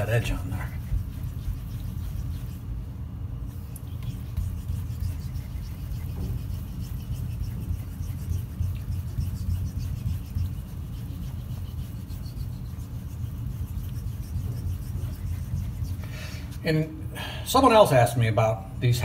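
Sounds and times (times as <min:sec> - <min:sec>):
razor scraping on wet whetstone: 0:00.0 - 0:02.7, 0:03.5 - 0:16.6
steady low rumble: 0:00.0 - 0:16.0.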